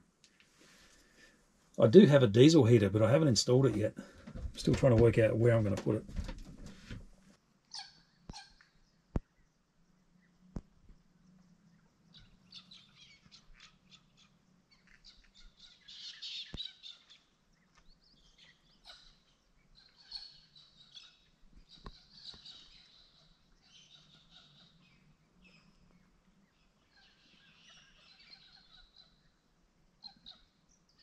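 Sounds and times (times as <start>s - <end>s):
birds chirping: 1.8s - 7.0s, 7.8s - 31.0s.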